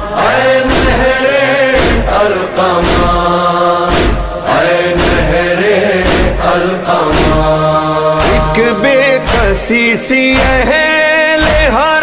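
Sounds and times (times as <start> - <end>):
male chorus chanting: 0.0 - 12.0
percussive beat: 0.7 - 1.2, 1.8 - 12.0.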